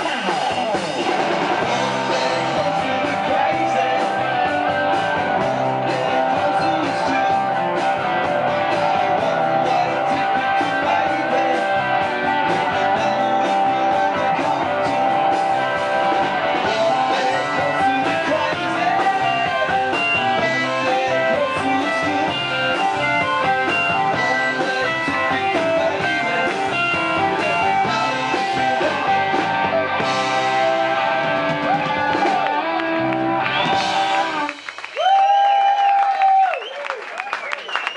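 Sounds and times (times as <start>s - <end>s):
man singing: 0.0s - 32.6s
electric guitar: 0.0s - 36.6s
bass guitar: 0.0s - 36.7s
drums: 0.0s - 37.9s.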